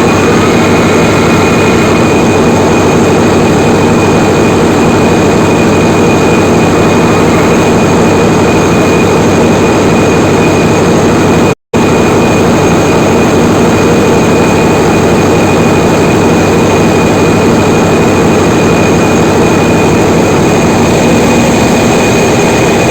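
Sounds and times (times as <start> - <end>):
generator engine drone: 0.0 - 22.9
high whine: 0.0 - 22.9.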